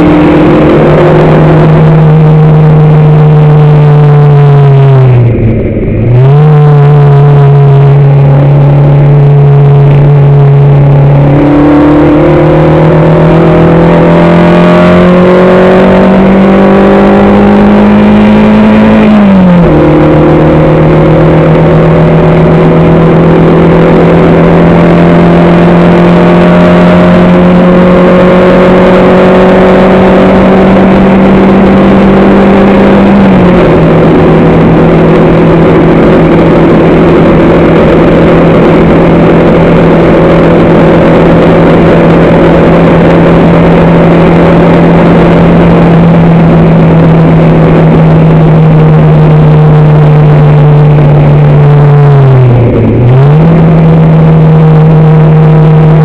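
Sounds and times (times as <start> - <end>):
race car engine under load: 0.0 - 56.0.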